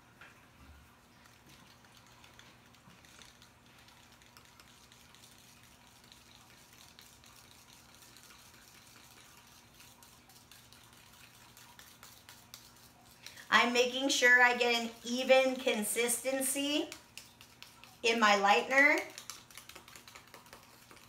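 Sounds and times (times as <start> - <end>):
low steady hum: 0.0 - 21.0
stirring in a bowl: 0.9 - 21.0.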